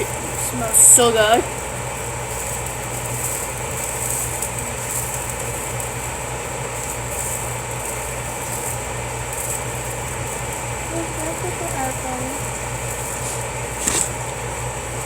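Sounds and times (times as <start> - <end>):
sausages sizzling in a frying pan: 0.0 - 15.0.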